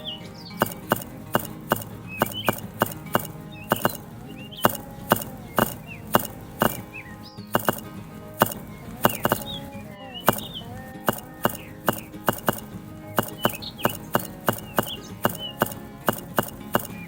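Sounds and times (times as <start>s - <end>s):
background music: 0.0s - 17.0s
bird chirps: 0.0s - 17.0s
sharp knocks: 0.6s - 7.0s, 7.6s - 9.6s, 10.3s - 17.0s.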